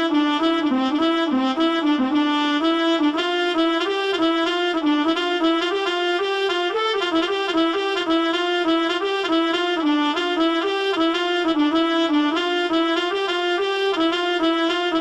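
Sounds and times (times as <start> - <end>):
horn-like wind instrument melody: 0.0 - 15.0.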